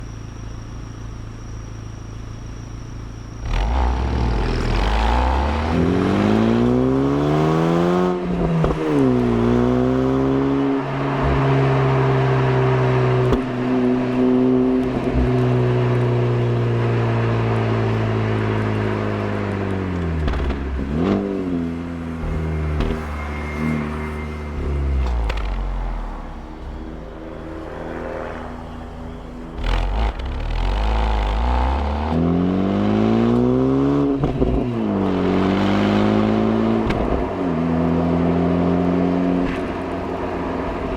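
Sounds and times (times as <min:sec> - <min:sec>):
car exhaust revving: 0:03.4 - 0:40.9.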